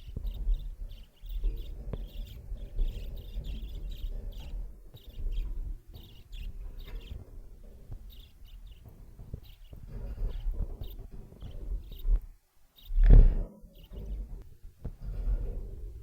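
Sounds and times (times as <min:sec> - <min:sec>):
budgies chirping: 0:00.0 - 0:16.0.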